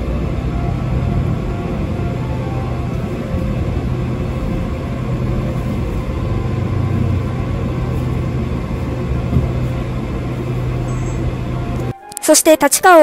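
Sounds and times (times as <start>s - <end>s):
train rumbling inside carriage: 0.0s - 12.0s.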